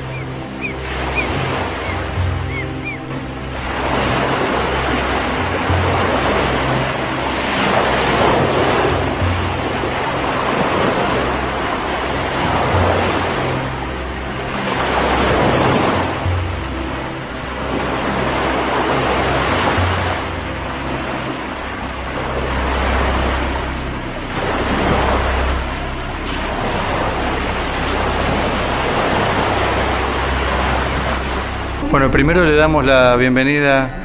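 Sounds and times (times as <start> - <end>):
ocean surf washing in: 0.0 - 34.0
soft background music: 0.0 - 34.0.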